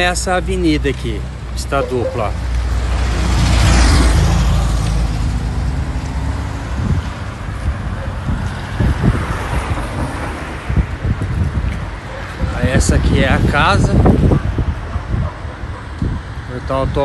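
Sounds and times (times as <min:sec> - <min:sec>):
car road noise rumble: 0:00.0 - 0:16.5
wind rushing at open window: 0:03.3 - 0:17.0.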